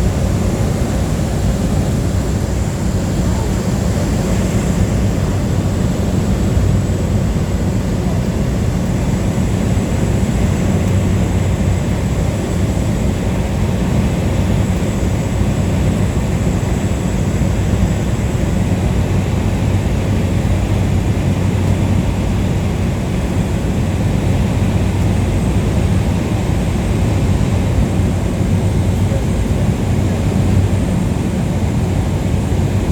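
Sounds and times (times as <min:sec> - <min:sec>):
light aircraft engine drone: 0:00.0 - 0:32.9.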